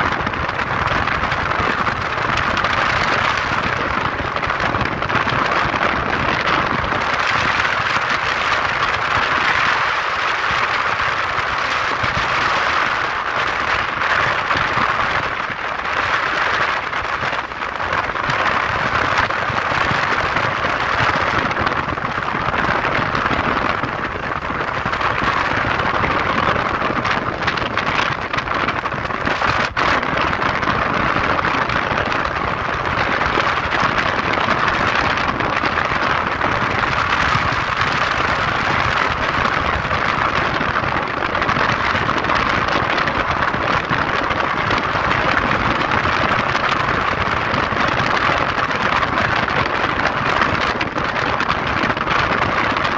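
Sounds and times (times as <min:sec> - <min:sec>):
wind and road noise in vehicle: 0:00.0 - 0:52.9.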